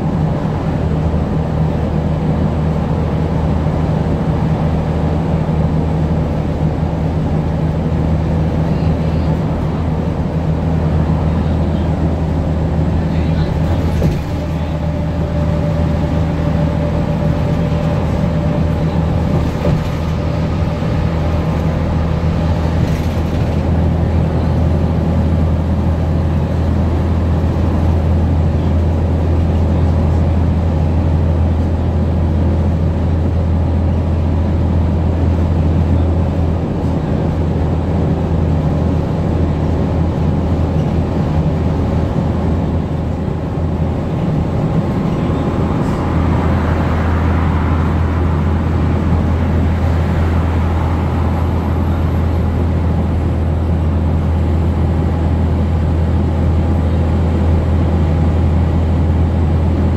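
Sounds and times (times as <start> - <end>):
bus engine drone: 0.0 - 59.9
road and cabin noise: 0.0 - 59.9.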